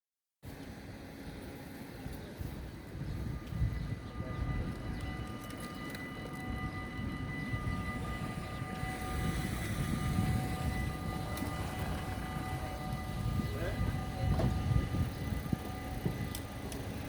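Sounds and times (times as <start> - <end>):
level crossing warning bells: 2.5 - 17.0.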